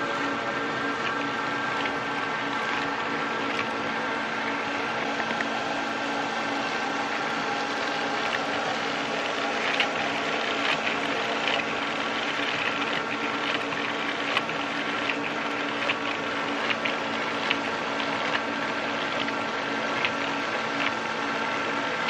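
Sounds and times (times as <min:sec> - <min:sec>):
machine humming with fixed tones: 0:00.0 - 0:22.0.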